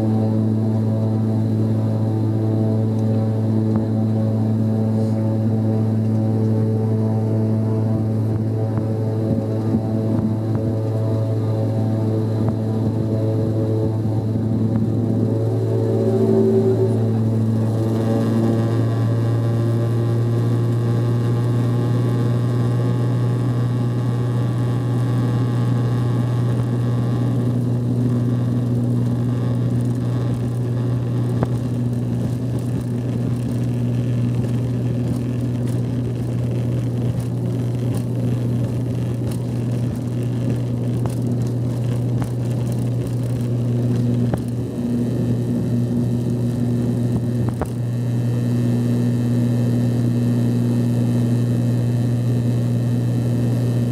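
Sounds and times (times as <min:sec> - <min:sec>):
turboprop engine drone: 0:00.0 - 0:53.9.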